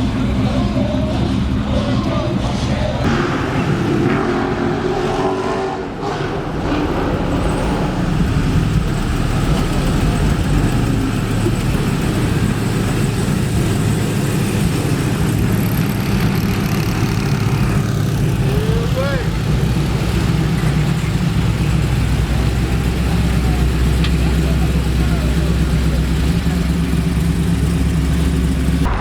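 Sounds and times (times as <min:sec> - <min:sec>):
car engine running: 0:00.0 - 0:04.7, 0:06.2 - 0:29.0.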